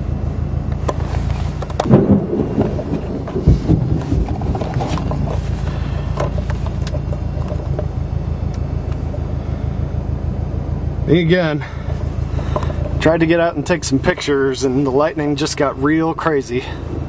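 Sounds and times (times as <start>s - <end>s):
car engine idling: 0.0s - 17.0s
knocks and rough rumbles: 0.6s - 17.0s.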